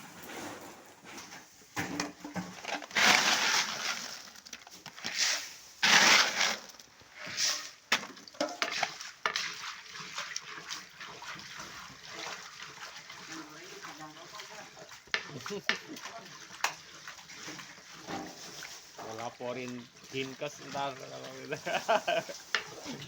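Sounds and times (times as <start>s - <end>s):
stirring clicks and clatter: 1.2s - 23.0s
frying in hot oil sizzling: 2.3s - 23.0s.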